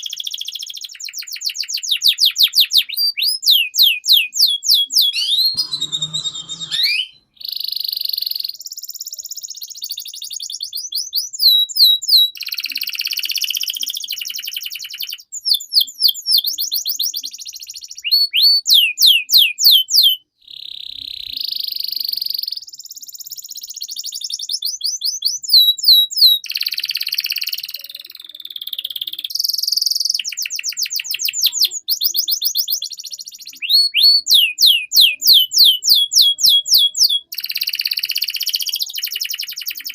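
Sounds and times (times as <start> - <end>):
canary singing: 0.0 - 22.9, 23.9 - 39.9.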